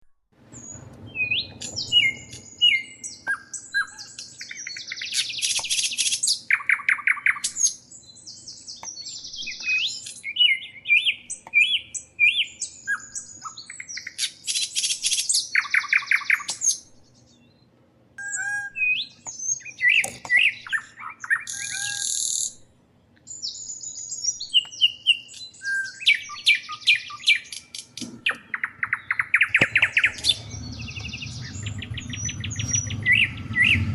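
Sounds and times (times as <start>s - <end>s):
small birds chirping: 0.6s - 33.9s.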